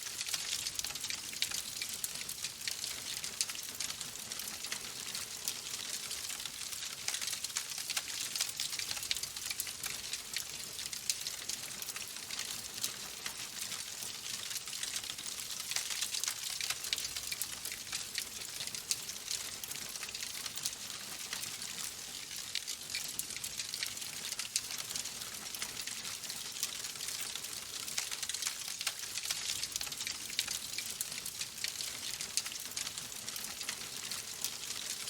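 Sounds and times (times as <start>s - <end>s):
logs crackling in fireplace: 0.0s - 35.0s.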